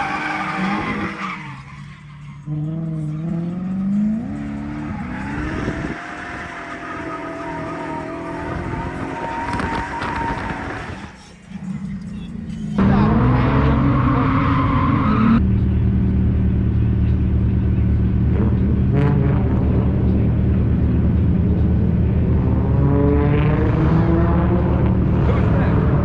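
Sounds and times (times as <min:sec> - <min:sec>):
car engine running: 0:00.0 - 0:13.4, 0:15.1 - 0:22.9.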